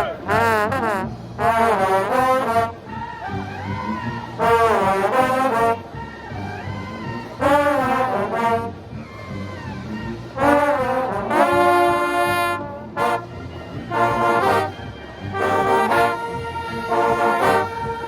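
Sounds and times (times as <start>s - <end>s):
trombones playing brass chords: 0.0s - 18.0s.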